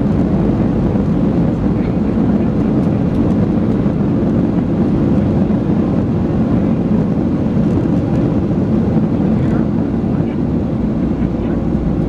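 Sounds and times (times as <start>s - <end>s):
airplane cabin noise taxiing: 0.0s - 12.0s.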